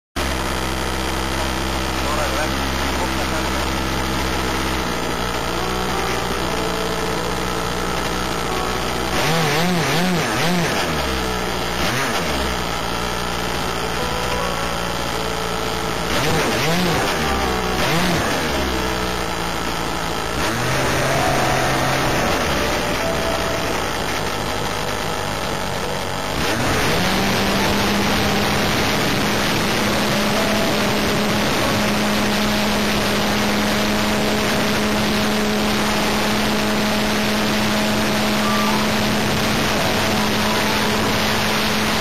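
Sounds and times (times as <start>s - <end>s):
model plane engine running: 0.2s - 42.0s.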